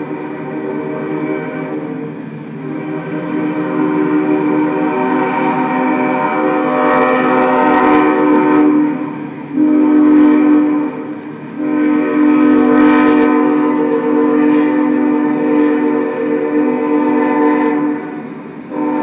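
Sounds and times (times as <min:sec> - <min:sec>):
locomotive air horn chord: 0:00.0 - 0:19.0.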